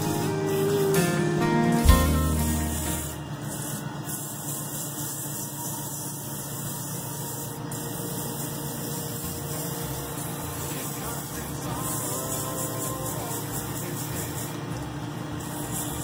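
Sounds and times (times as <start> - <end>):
sandpaper sanding hiss: 0.0 - 14.7, 15.4 - 16.0
wood lathe running: 0.0 - 16.0.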